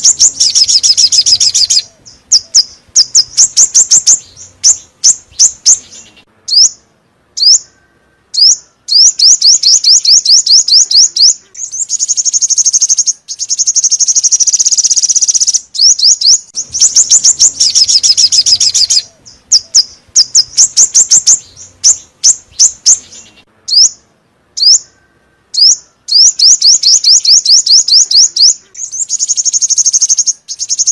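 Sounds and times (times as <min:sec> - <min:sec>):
rapid high sharp bird chirps: 0:00.0 - 0:06.8, 0:07.4 - 0:24.0, 0:24.6 - 0:30.9.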